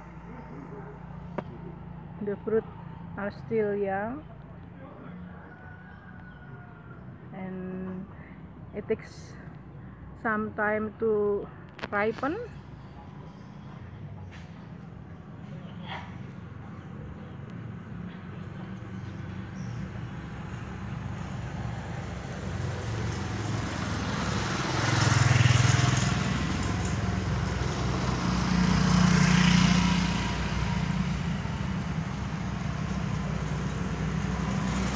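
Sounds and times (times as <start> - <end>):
vehicles passing: 0.0 - 34.9.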